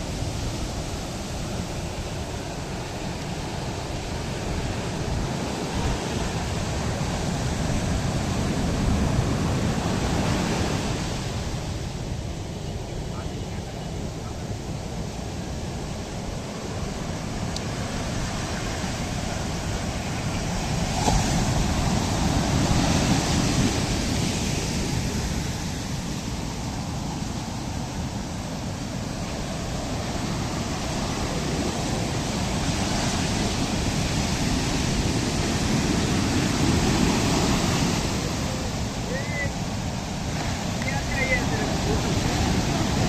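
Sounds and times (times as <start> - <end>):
ocean surf washing onto beach: 0.0 - 43.0.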